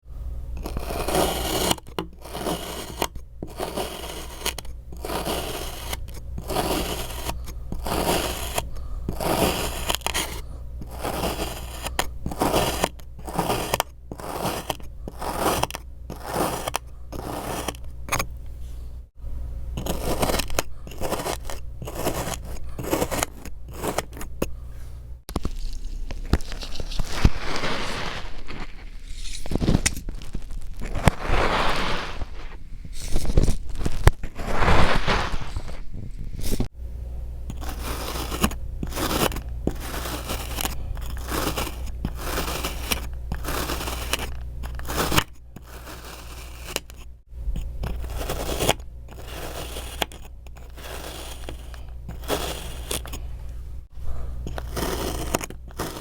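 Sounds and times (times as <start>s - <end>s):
kinetic sand cut and scraped: 0.6s - 17.8s, 19.8s - 24.3s, 25.4s - 30.0s, 30.6s - 36.7s, 37.5s - 47.1s, 47.8s - 53.2s, 54.5s - 56.0s.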